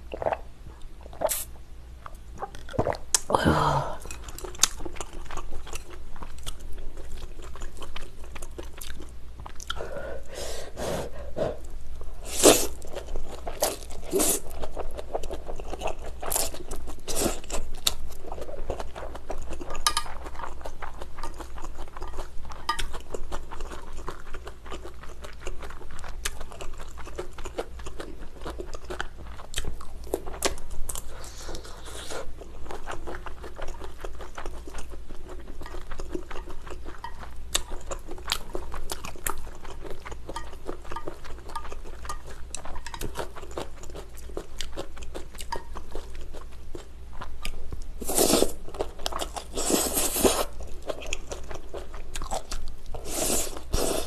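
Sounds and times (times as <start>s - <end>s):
person chewing noodles: 0.1s - 54.0s.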